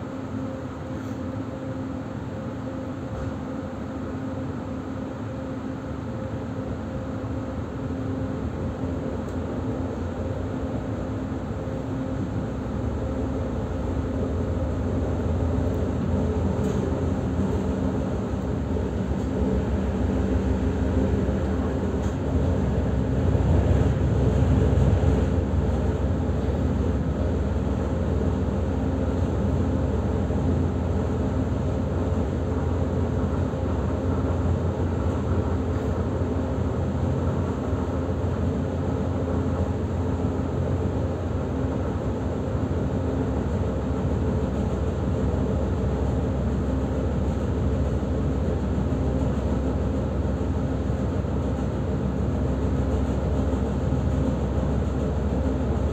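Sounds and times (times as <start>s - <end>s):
constant hum: 0.0s - 55.9s
train running gear rumble: 0.0s - 55.9s.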